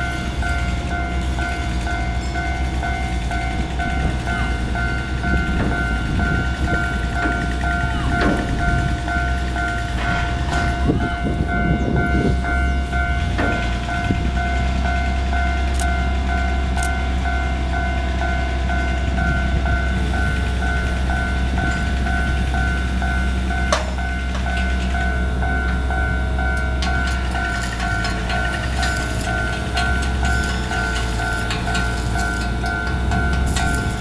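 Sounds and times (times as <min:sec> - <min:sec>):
high pulsing tone: 0:00.0 - 0:34.0
locomotive rumbling: 0:00.0 - 0:34.0.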